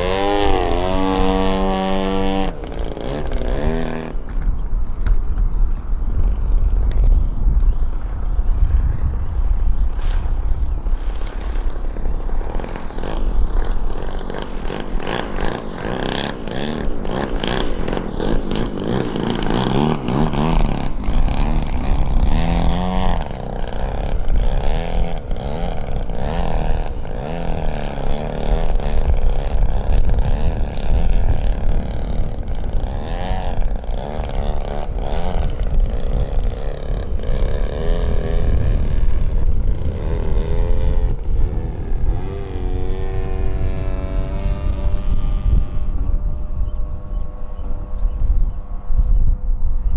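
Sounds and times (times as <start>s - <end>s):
model plane engine revving: 0.0s - 4.4s, 11.3s - 49.0s.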